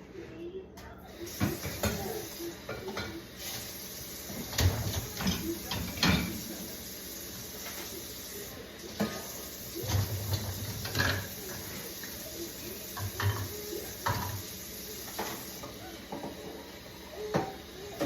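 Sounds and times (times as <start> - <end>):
dishes clattering and clinking: 0.8 - 3.7, 4.3 - 6.6, 8.8 - 18.0.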